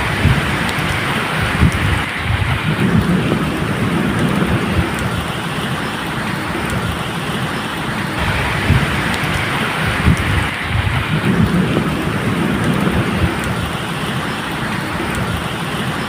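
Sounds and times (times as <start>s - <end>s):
distant thunder rumbling: 0.0s - 16.0s
rain falling: 0.0s - 16.0s.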